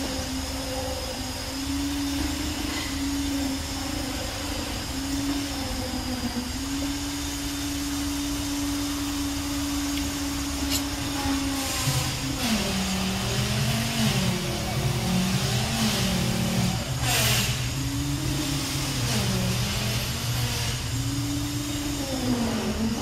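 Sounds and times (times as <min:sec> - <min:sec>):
engine with hiss: 0:00.0 - 0:23.0
motor humming: 0:00.0 - 0:23.0.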